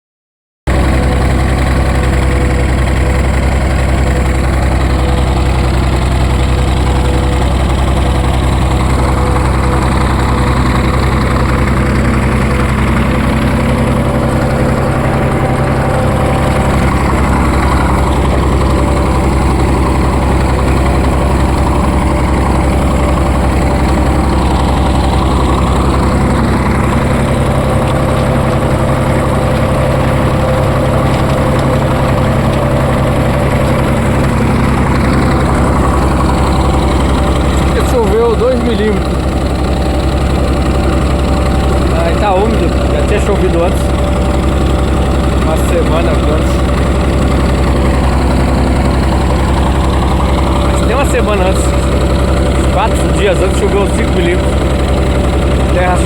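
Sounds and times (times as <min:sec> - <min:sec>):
tractor diesel engine running: 0:00.7 - 0:56.0.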